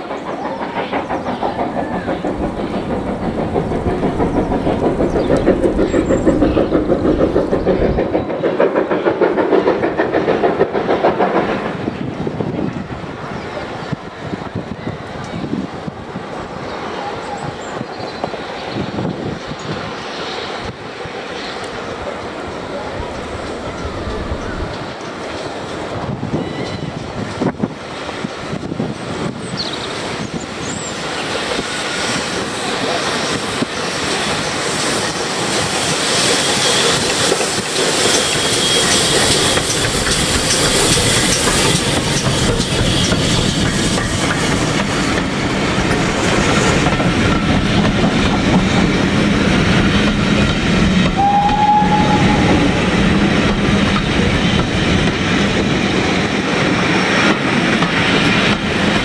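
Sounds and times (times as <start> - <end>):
steam locomotive running: 0.0 - 59.0.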